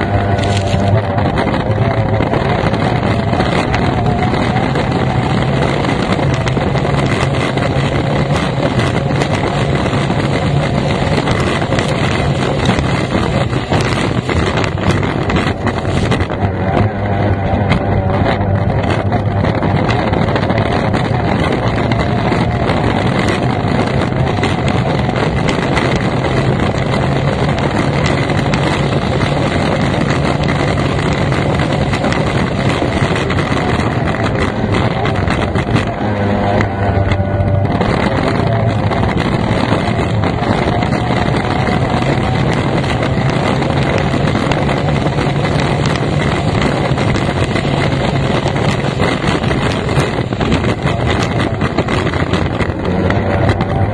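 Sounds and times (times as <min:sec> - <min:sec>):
boat engine running at speed: 0:00.0 - 0:53.9
wind buffeting microphone: 0:00.0 - 0:53.9.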